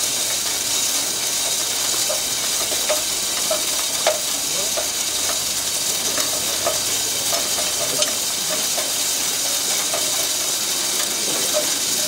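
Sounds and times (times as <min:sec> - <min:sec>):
steady hissing noise: 0:00.0 - 0:12.0.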